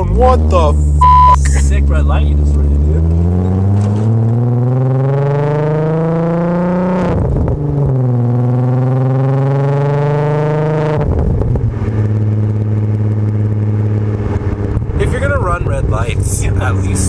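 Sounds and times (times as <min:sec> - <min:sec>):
car exhaust accelerating hard: 0:00.0 - 0:17.0.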